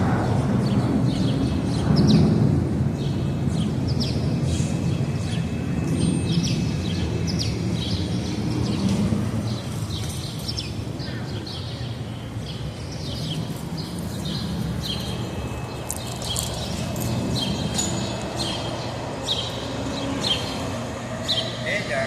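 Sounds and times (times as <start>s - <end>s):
small birds chirping: 0.6s - 22.0s.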